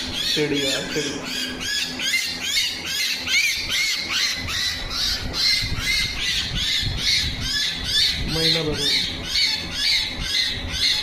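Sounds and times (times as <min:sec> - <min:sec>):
bird squawking harshly: 0:00.0 - 0:11.0.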